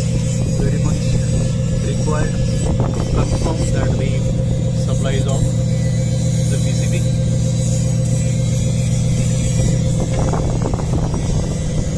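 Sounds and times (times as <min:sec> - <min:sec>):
machinery low drone: 0:00.0 - 0:11.9.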